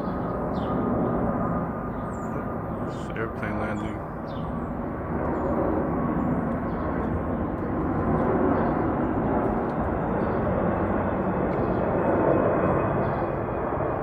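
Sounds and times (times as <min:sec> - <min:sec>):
jet airliner flying overhead: 0:00.0 - 0:14.0.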